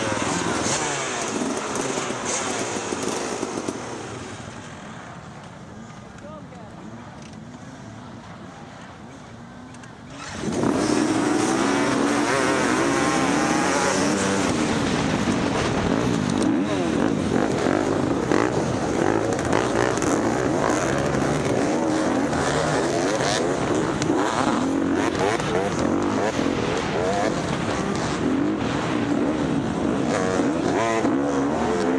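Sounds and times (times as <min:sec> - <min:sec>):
dirt bike engines revving: 0:00.0 - 0:31.9.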